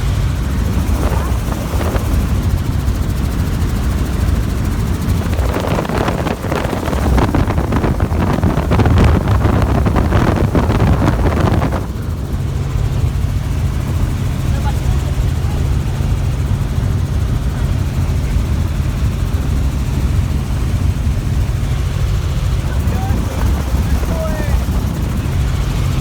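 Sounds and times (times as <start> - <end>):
helicopter rotor and engine drone: 0.0 - 26.0
rushing noise with rapid flutter: 0.0 - 26.0.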